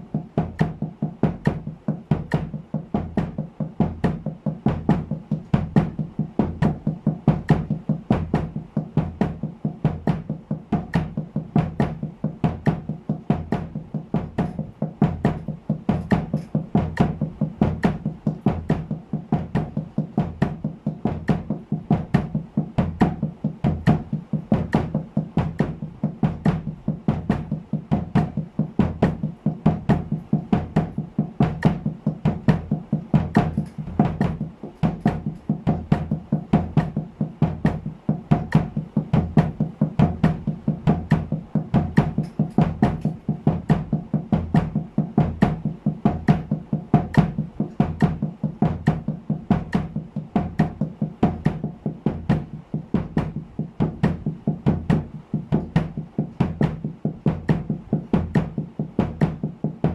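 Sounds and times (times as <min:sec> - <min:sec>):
bass drum kicks: 0:00.0 - 0:59.9
damped snare drum: 0:00.0 - 0:59.9.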